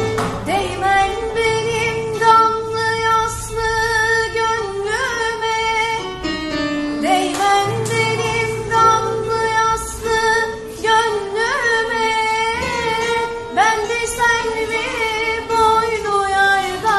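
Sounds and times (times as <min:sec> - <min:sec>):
low accompaniment: 0:00.0 - 0:16.9
young woman singing: 0:00.0 - 0:16.9.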